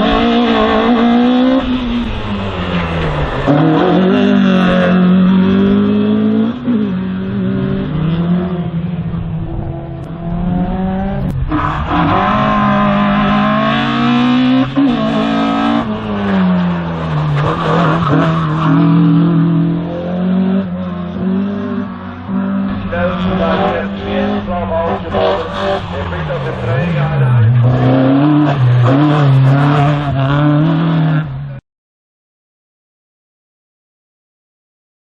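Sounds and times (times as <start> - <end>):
race car engine revving: 0.0 - 31.6.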